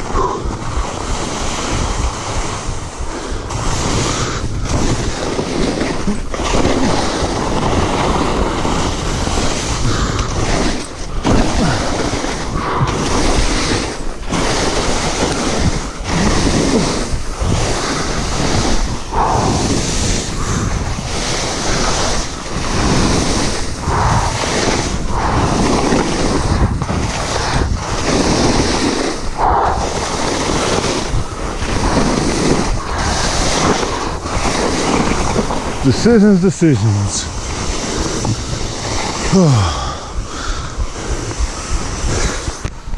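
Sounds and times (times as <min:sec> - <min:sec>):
skis scraping through snow: 0:00.0 - 0:42.9
wind buffeting microphone: 0:00.0 - 0:42.9.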